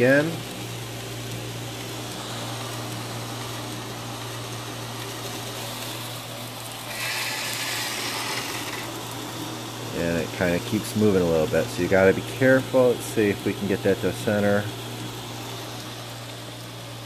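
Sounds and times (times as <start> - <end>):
motor hum: 0.0 - 17.0
abrasive belt hissing: 1.9 - 17.0.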